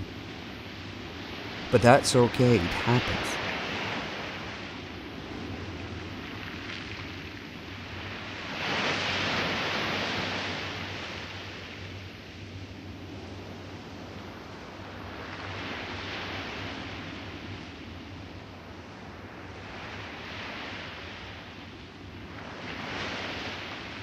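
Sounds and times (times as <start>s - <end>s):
surf washing on a sandy beach: 0.0s - 24.0s.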